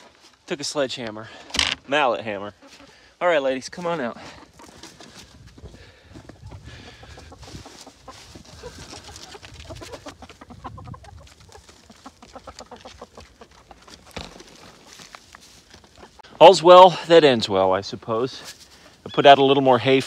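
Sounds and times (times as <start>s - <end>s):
hens clucking: 1.9s - 20.0s.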